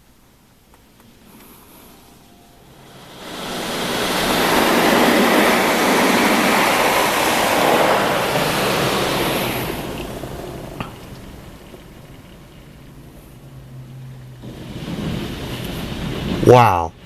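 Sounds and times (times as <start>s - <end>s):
car wash water jets spraying: 0.0s - 17.0s.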